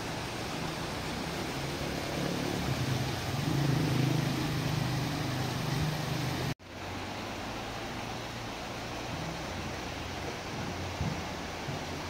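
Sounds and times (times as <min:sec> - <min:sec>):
passing vehicle engine hum: 0:00.0 - 0:12.0
river rushing over rocks: 0:00.0 - 0:12.0.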